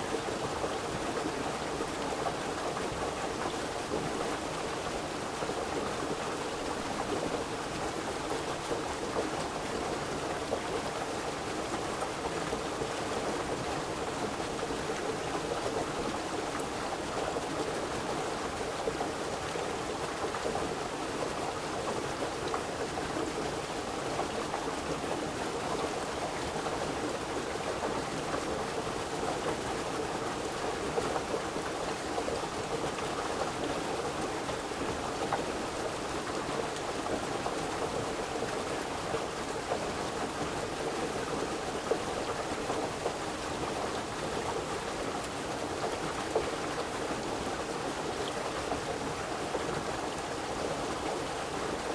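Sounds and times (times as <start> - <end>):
rushing water: 0.0 - 51.9.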